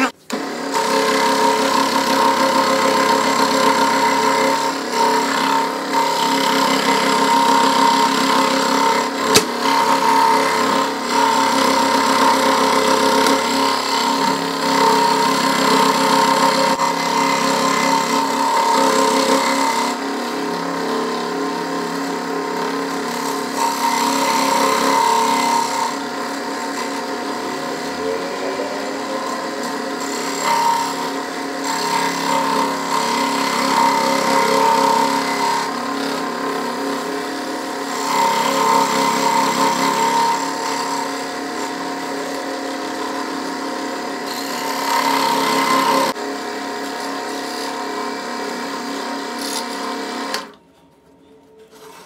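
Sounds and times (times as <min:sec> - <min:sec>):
scroll saw cutting board: 0:00.0 - 0:52.0.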